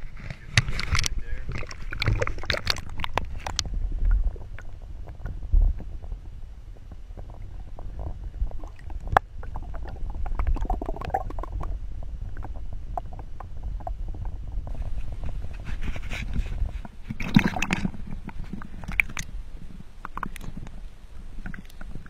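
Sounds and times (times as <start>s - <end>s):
muffled underwater rumble: 0.0s - 22.0s
water gurgling: 0.0s - 22.0s.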